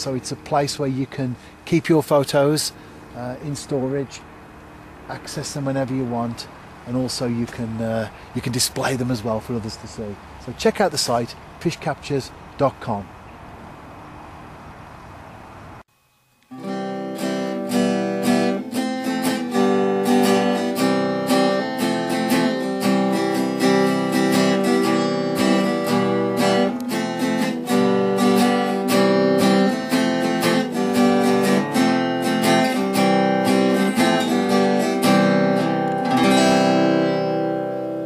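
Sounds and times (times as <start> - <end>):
acoustic guitar picking: 0.0 - 9.6, 16.5 - 38.0.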